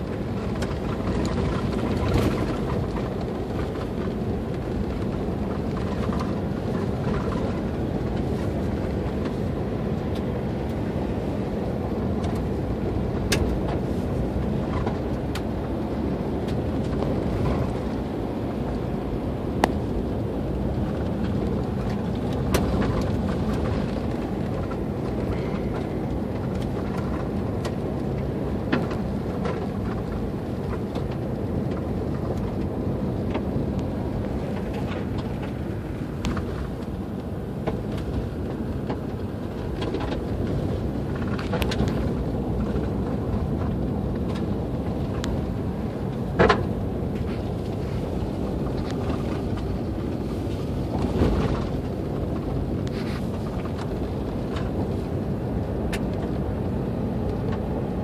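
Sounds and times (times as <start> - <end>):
tyres rumbling on gravel: 0.0 - 58.0.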